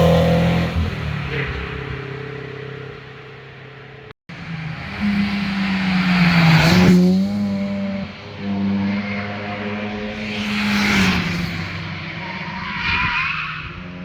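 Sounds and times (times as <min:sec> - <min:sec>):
car engines passing at speed: 0:00.0 - 0:14.0.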